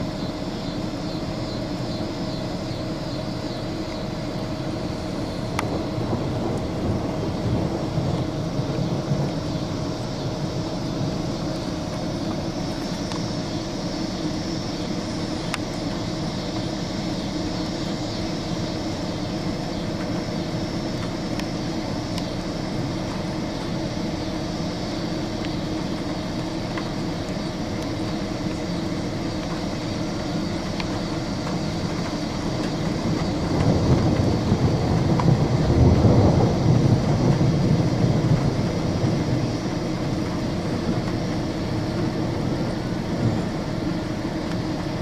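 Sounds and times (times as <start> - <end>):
faint constant hum: 0.0 - 45.0
low rumble of thunder: 3.4 - 45.0.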